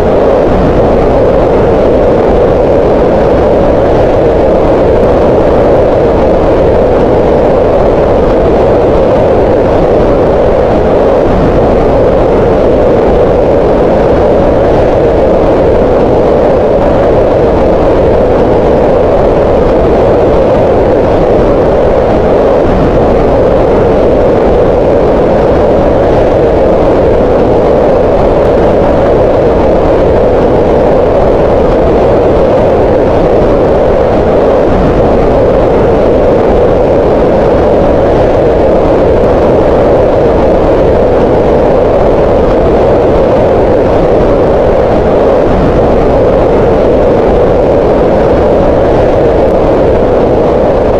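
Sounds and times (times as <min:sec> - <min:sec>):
steady hiss-like rush: 0:00.0 - 0:50.9.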